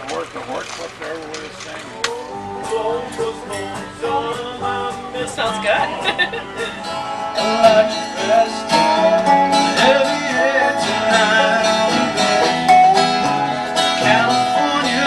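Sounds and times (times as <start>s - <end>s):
plucked acoustic guitar: 0.0s - 15.0s.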